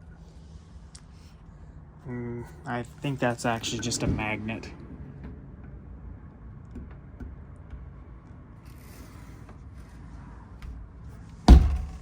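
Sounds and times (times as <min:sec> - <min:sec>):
low steady hum: 0:00.0 - 0:09.2, 0:10.2 - 0:12.0.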